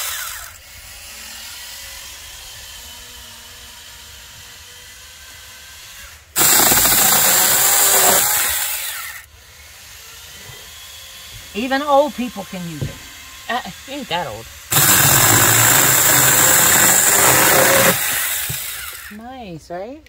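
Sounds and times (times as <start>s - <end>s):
electric chainsaw whining: 0.0s - 19.2s.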